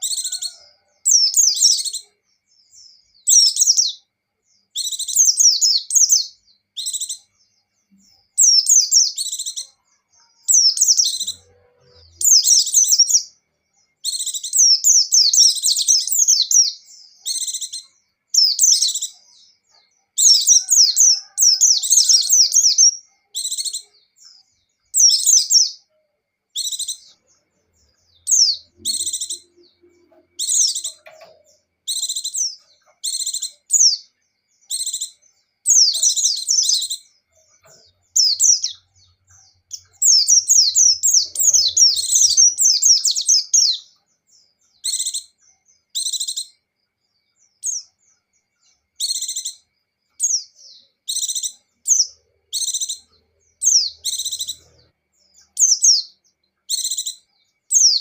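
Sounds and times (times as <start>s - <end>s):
birds twittering: 0.0s - 58.0s.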